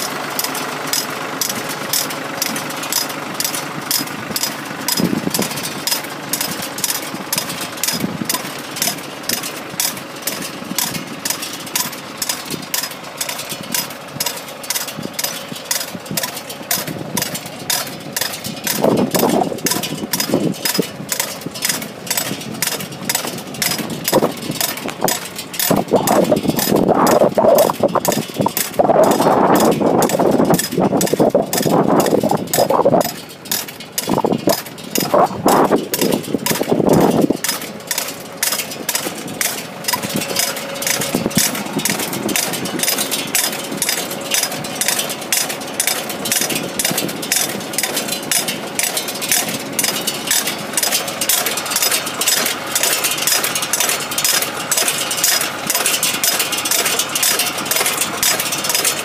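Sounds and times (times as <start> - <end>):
tractor engine running: 0.0 - 59.0
fast even clicking: 0.4 - 59.0.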